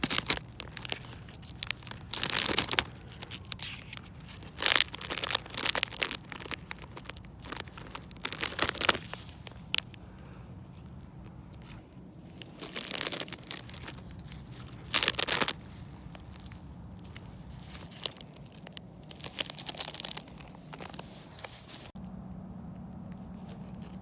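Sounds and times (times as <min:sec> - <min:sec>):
crunching and crinkling rustles: 0:00.0 - 0:24.0.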